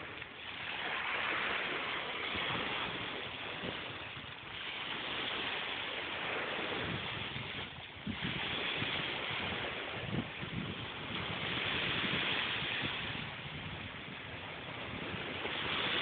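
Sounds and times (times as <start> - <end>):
surf washing up on sand: 0.0 - 16.0
wind buffeting microphone: 0.0 - 16.0.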